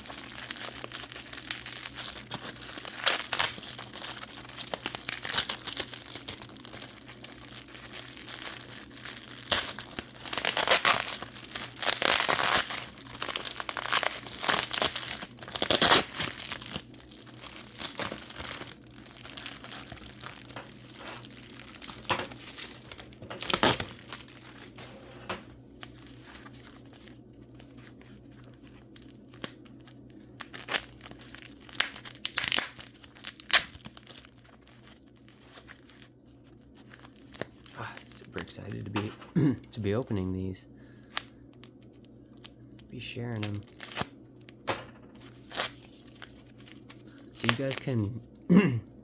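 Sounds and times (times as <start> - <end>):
packing wrap rustling: 0.0 - 39.2, 41.0 - 48.2.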